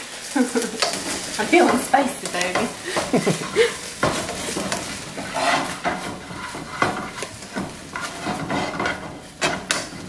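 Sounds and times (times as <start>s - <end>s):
chicken sizzling in frying pan: 0.0s - 10.0s
metal tongs scraping pan: 0.6s - 10.0s.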